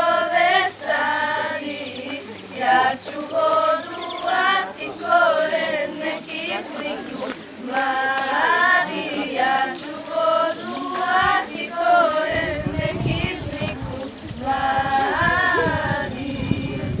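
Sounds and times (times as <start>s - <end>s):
girls singing in unison: 0.0s - 17.0s.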